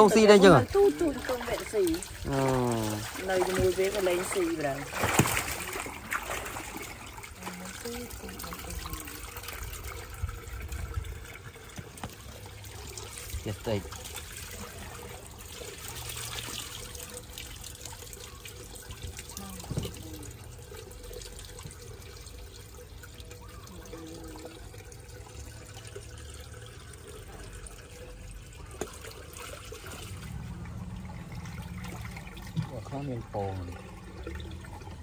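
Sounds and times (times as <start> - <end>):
water trickling: 0.0 - 35.0.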